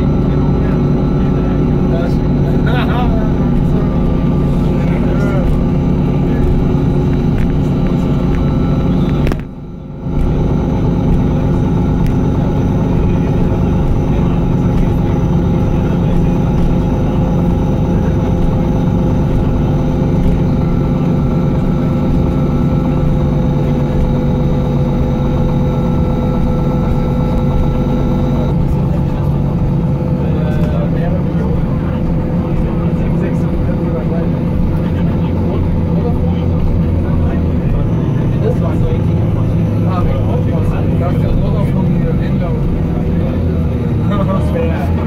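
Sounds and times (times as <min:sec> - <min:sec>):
bus engine hum: 0:00.0 - 0:45.0
steady whine: 0:00.0 - 0:45.0.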